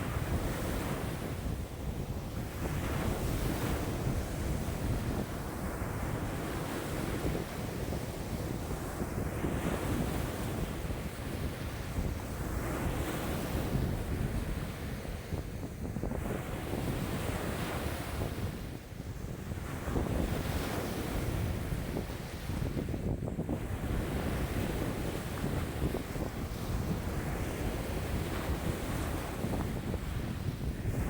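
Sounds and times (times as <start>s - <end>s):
waves washing in: 0.0s - 31.0s
wind buffeting microphone: 0.0s - 31.0s.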